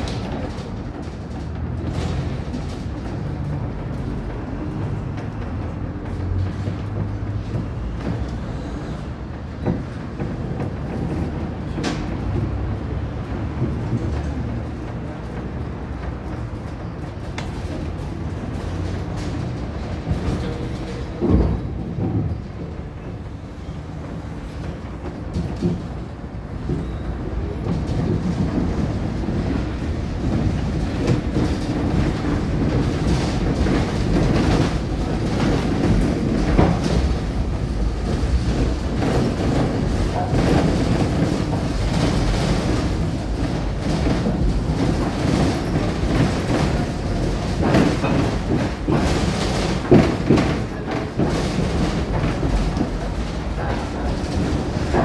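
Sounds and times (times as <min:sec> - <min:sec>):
tram running on rails: 0:00.0 - 0:55.0
wheels clacking over track joints: 0:00.0 - 0:55.0.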